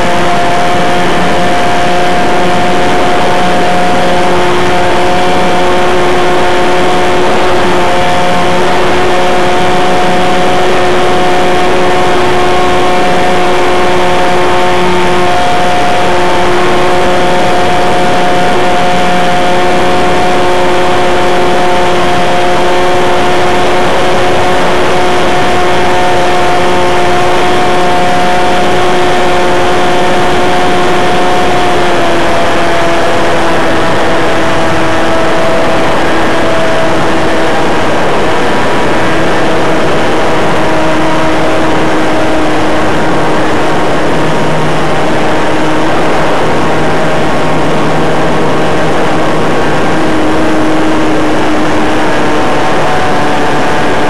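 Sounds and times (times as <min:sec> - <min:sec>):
model airplane engine buzzing: 0:00.0 - 0:54.0
wind rushing noise: 0:00.0 - 0:54.0.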